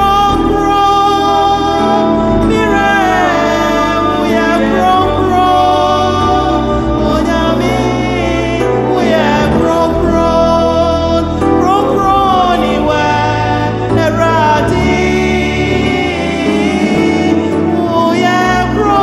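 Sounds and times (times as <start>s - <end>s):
instrumental backing with deep bass: 0.0s - 19.0s.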